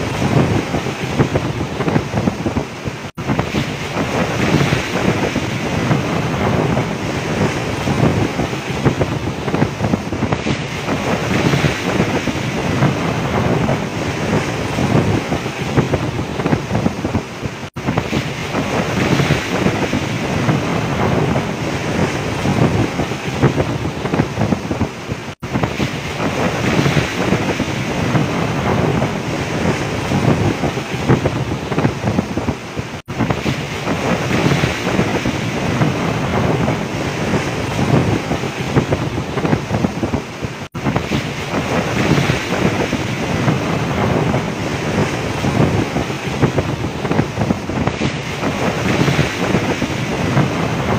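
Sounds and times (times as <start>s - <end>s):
waves breaking around boat: 0.0s - 50.9s
wind blowing across microphone: 0.0s - 50.9s.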